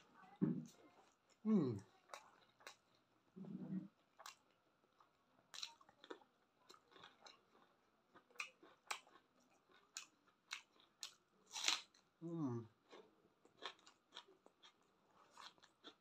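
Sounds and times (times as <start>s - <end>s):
person chewing food: 0.8s - 12.1s, 12.7s - 16.0s.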